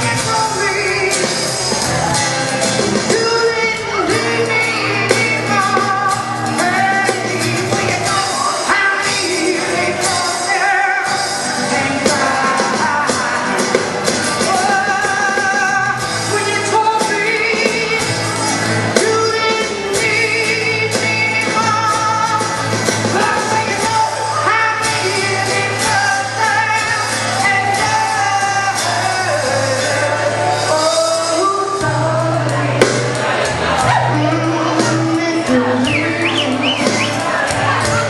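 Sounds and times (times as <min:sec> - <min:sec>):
rock music with singer: 0:00.0 - 0:38.0.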